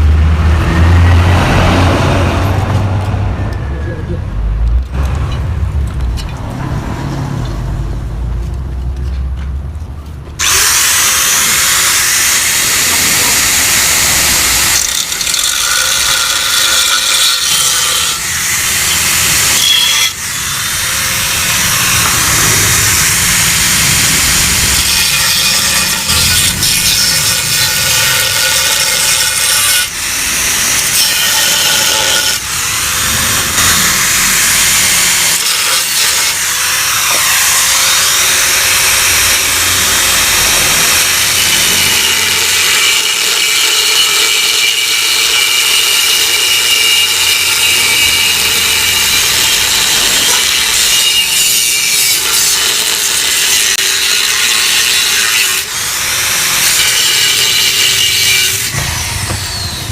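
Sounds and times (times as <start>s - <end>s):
angle grinder cutting steel: 10.4s - 59.9s.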